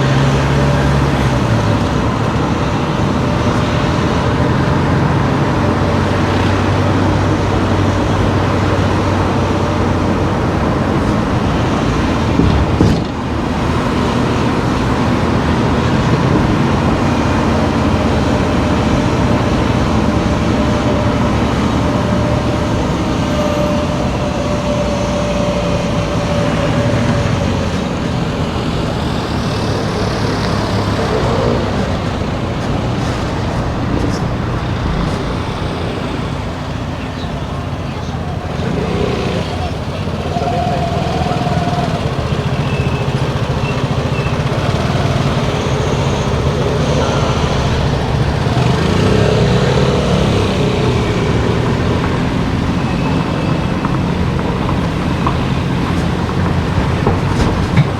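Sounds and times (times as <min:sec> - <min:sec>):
car engine and tyre noise: 0:00.0 - 0:57.9.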